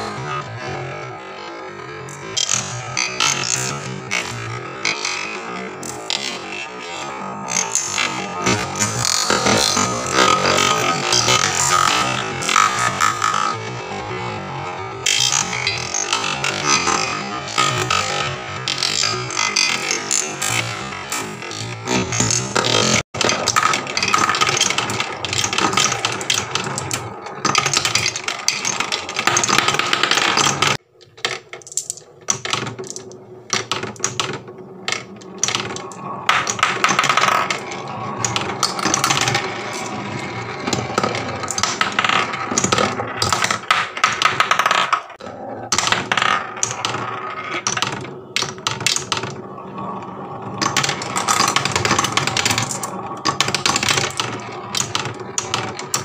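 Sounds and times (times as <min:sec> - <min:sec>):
marbles rolling on wooden tracks: 0:00.0 - 0:56.0
marbles clicking against wooden pegs: 0:07.6 - 0:13.6, 0:15.1 - 0:49.9, 0:50.5 - 0:56.0
marbles rattling round wooden spiral: 0:07.6 - 0:13.9, 0:15.0 - 0:56.0.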